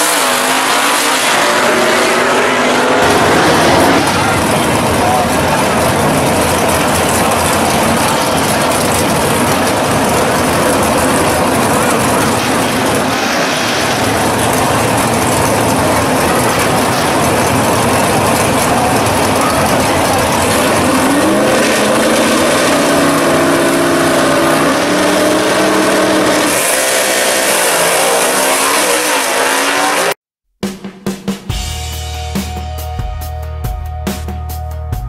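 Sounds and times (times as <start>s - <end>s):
cars accelerating through gears: 0.0s - 30.2s
race car engines revving: 0.0s - 30.2s.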